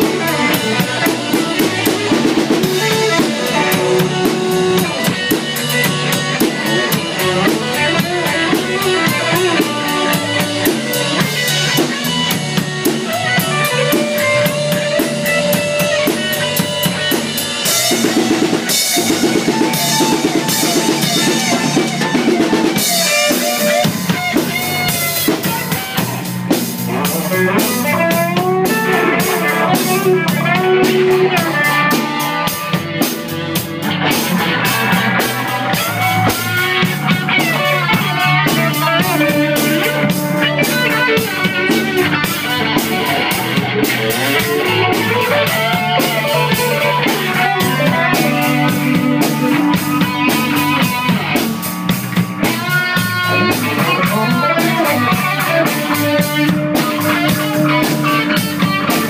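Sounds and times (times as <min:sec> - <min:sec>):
drum kit: 0:00.0 - 0:59.0
electric bass: 0:00.0 - 0:59.0
electric guitar lead lines: 0:00.0 - 0:59.0.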